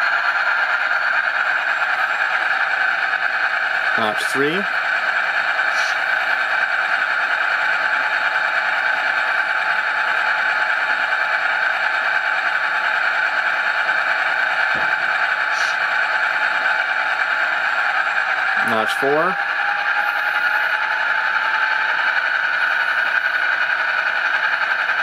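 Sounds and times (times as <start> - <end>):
diesel locomotive sound from small speaker: 0.0 - 25.0.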